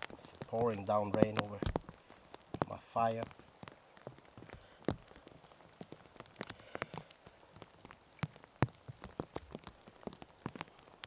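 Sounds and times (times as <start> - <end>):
pouring rain: 0.0 - 11.0
raindrops tapping sharply: 0.0 - 11.0.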